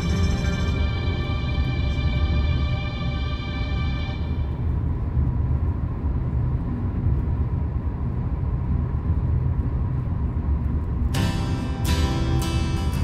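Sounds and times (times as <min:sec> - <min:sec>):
car driving at highway speed: 0:00.0 - 0:13.0.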